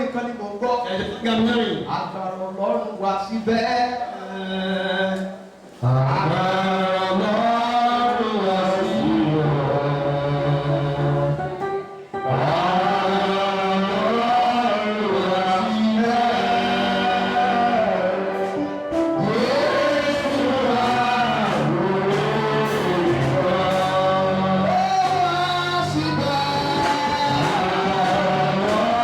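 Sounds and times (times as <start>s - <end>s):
choir singing gospel: 4.1s - 29.0s.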